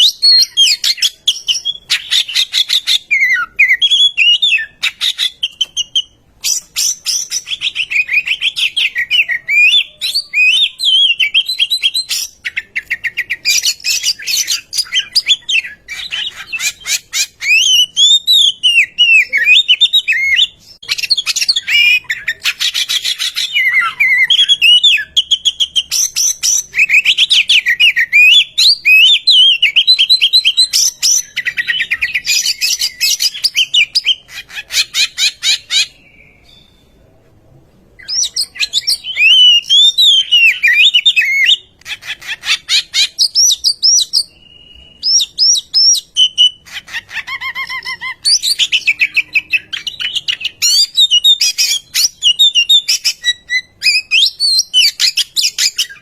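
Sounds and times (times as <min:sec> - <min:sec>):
bird singing whistled phrases: 0:00.0 - 0:36.9, 0:38.0 - 0:56.0.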